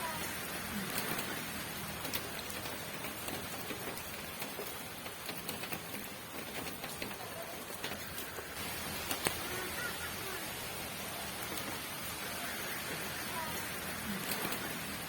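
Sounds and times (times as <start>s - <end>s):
raindrops ticking on a surface: 0.0s - 15.0s
steady rain falling: 0.0s - 15.0s.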